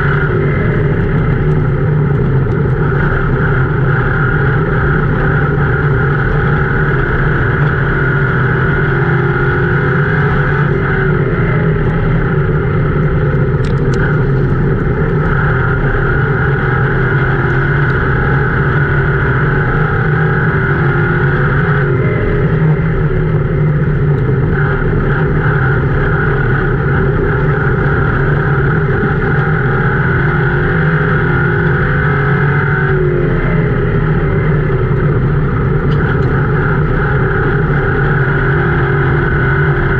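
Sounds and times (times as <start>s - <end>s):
race car engine at high revs: 0.0s - 39.9s
road and body noise: 0.0s - 39.9s.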